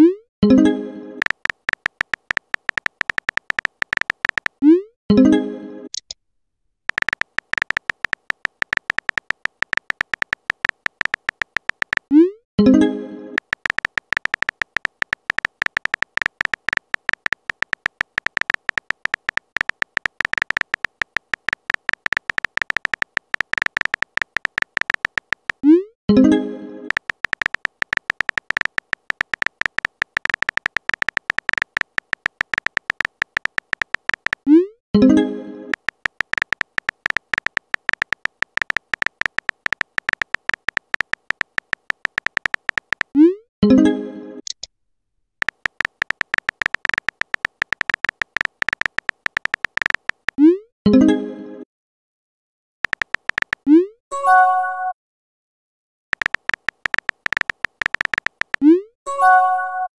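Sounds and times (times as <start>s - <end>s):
keyboard typing clicks: 0.0s - 4.8s, 6.9s - 12.8s, 13.4s - 25.8s, 26.9s - 43.4s, 45.4s - 50.6s, 52.8s - 53.9s, 56.2s - 58.8s.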